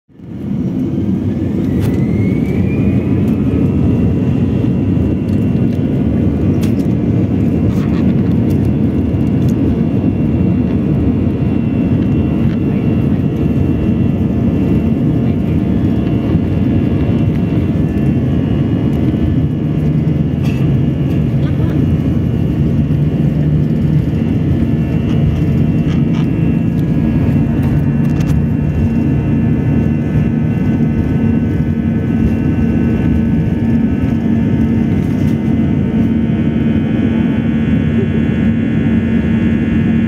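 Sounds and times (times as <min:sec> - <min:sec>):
jet engines roaring with whine: 0:00.1 - 0:40.0.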